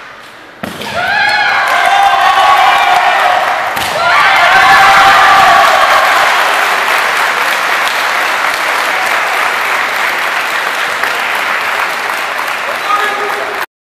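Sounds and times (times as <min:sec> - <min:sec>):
crowd applauding: 0:01.6 - 0:13.7.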